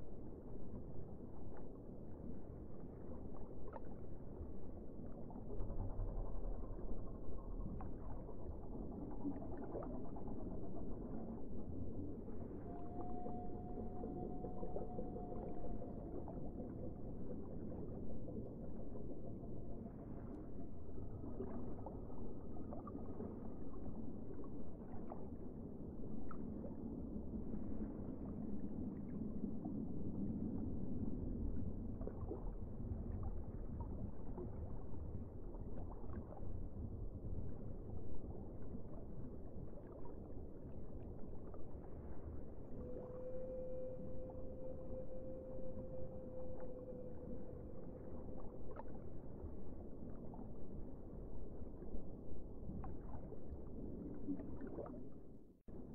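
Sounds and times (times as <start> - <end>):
muffled underwater wash: 0.0 - 55.9.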